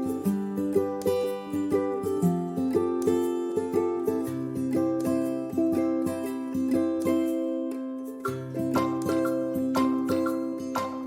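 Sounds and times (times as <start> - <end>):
plucked acoustic strings melody: 0.0 - 11.0.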